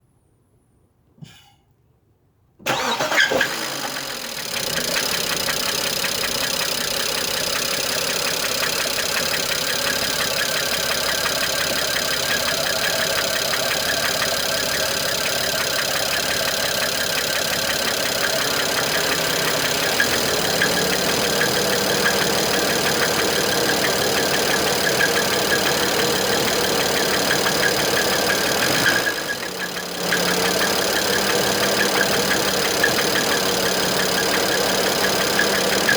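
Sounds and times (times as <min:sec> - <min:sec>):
car engine starting and running: 0:02.6 - 0:35.9
rapid engine knocking: 0:03.6 - 0:35.9.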